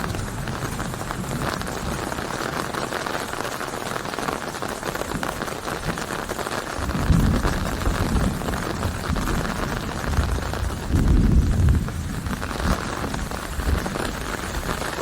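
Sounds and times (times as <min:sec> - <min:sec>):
rain falling on a surface: 0:00.0 - 0:15.0.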